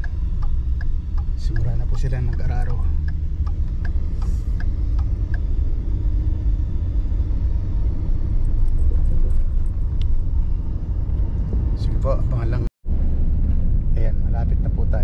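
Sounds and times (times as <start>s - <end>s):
vehicle engine and tyre rumble: 0.0s - 15.0s.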